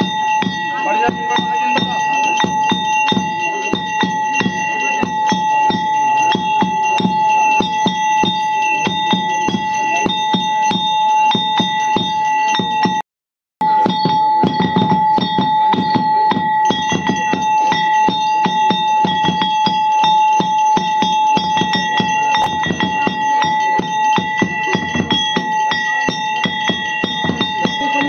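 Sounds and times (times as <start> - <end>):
hand bell ringing rapidly: 0.0 - 13.0, 13.6 - 28.0
low pulsing beat: 0.0 - 13.0, 13.6 - 28.0.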